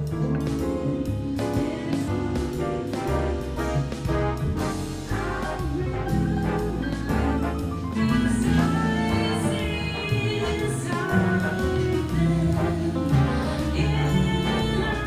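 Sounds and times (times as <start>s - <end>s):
song with singing over a beat: 0.0s - 4.2s, 5.2s - 15.0s.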